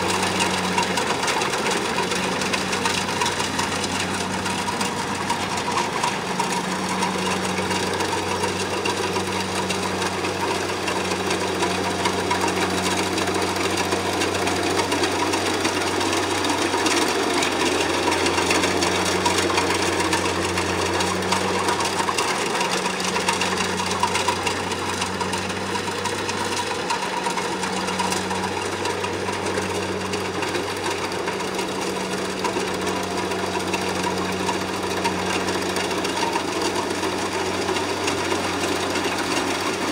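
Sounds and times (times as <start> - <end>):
diesel engine drone: 0.0 - 39.9
machinery clattering: 0.0 - 39.9.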